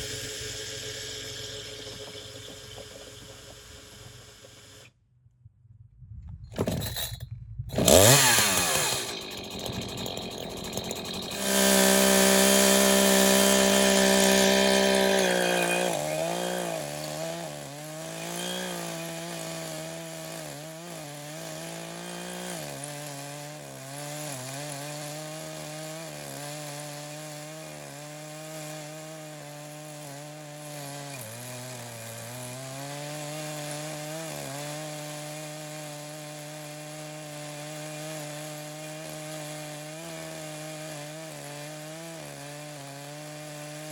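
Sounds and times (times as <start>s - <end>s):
chainsaw cutting wood: 0.0s - 4.9s, 7.7s - 43.9s.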